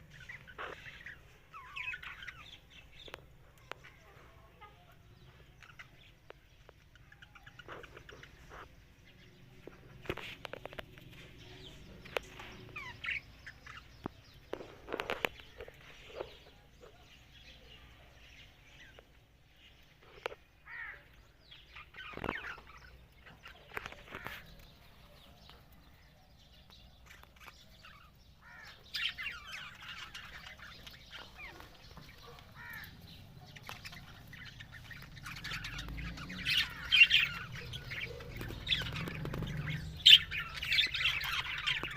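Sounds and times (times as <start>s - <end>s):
budgerigars chirping and chattering: 0.0s - 41.9s.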